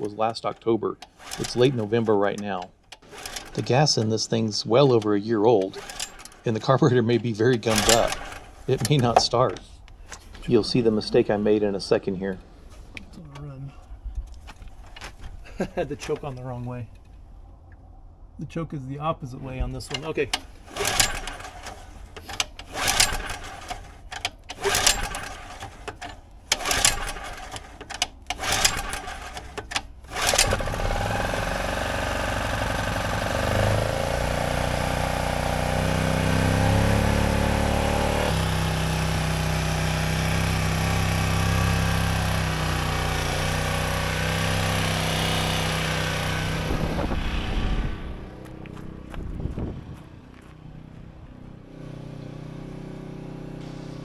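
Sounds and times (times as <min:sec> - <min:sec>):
generator engine running: 0:00.0 - 0:15.1, 0:19.7 - 0:54.0
recoil starter pulls: 0:00.0 - 0:17.2, 0:19.7 - 0:47.2.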